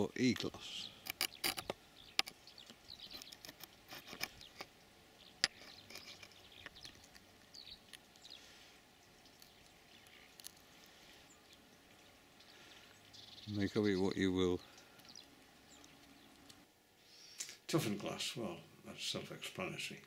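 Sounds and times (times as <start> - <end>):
faint outdoor background: 0.0 - 20.0.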